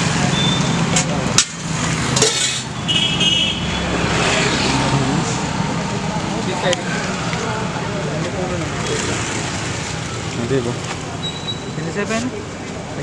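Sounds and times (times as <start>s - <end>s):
traffic engine hum: 0.0s - 13.0s.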